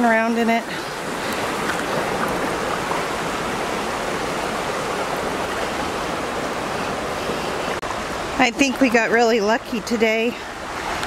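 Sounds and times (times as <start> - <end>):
creek flowing over stones: 0.0 - 11.0.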